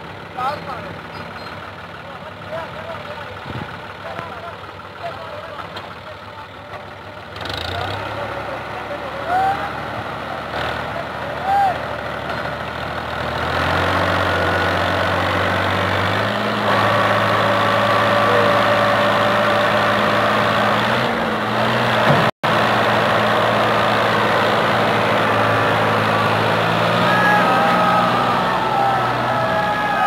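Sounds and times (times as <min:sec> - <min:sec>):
tractor diesel engine working hard: 0:00.0 - 0:30.0.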